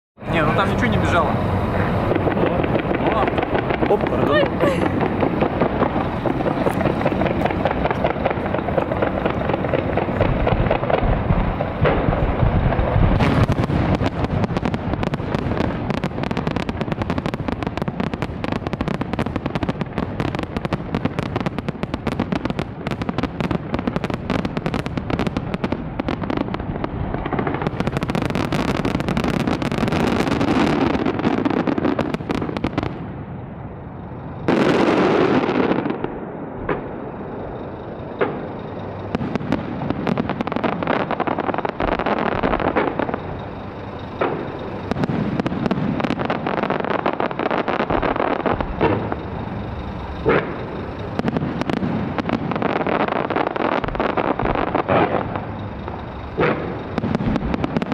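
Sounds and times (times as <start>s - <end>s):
fireworks crackling: 0.2s - 57.9s
loud firework burst: 0.2s - 57.9s.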